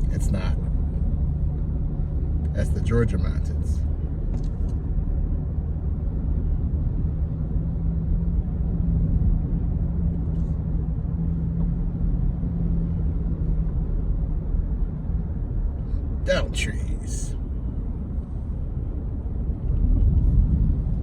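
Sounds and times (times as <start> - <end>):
road noise inside vehicle: 0.0 - 21.0
vehicle engine rumble: 0.0 - 21.0.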